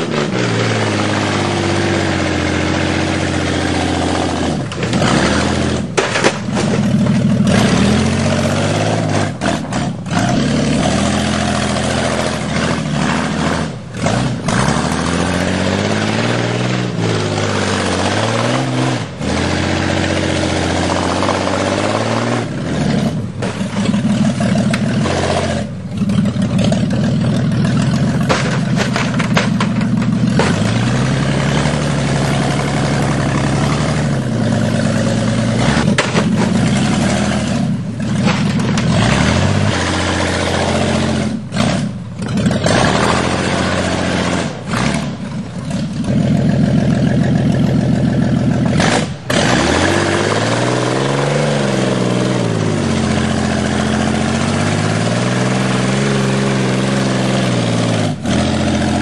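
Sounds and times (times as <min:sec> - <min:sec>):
old car engine idling and revving: 0:00.0 - 0:59.0.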